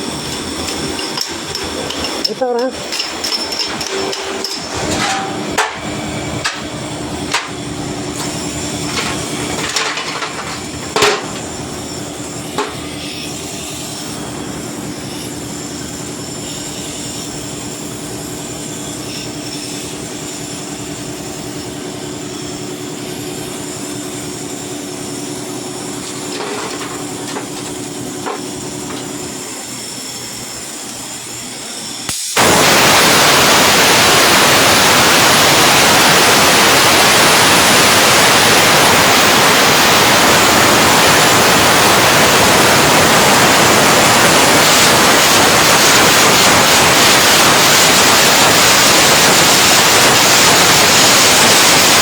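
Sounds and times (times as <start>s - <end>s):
welding arc crackling: 0.0s - 31.4s, 32.0s - 52.0s
loud even hiss: 0.0s - 52.0s.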